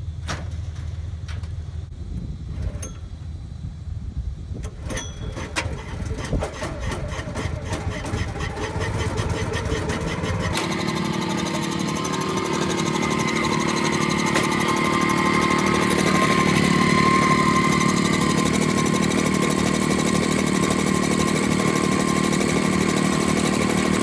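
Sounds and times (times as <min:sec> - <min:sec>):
small gas engine running: 0:04.6 - 0:24.0.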